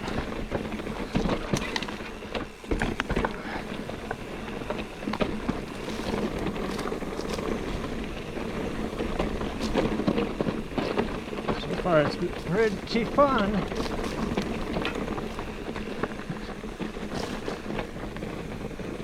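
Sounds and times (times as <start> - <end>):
bike knocks and rattles: 0.0 - 19.0
bike tyres rumbling on dirt: 0.0 - 19.0.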